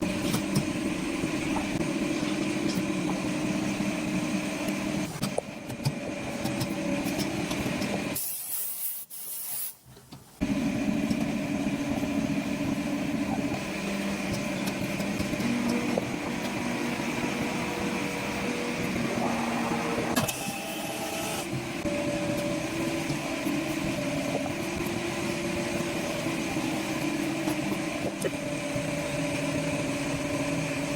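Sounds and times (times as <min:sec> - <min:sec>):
factory machinery humming and hissing: 0:00.0 - 0:09.0, 0:10.4 - 0:30.9.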